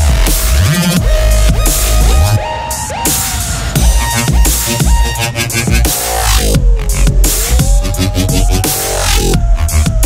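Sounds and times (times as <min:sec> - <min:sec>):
electronic music with heavy bass: 0:00.0 - 0:10.0
sliding synth lead line: 0:00.0 - 0:10.0.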